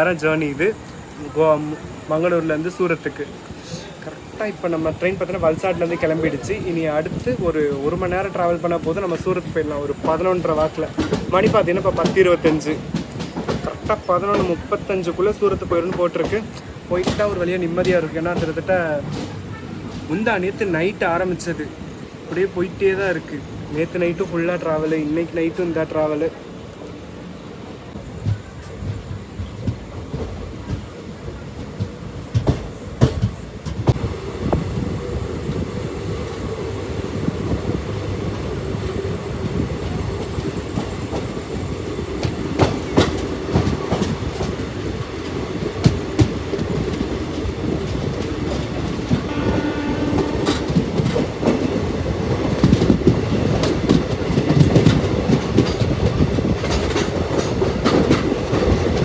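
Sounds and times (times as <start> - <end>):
train wheels clicking on rails: 0.0 - 59.0.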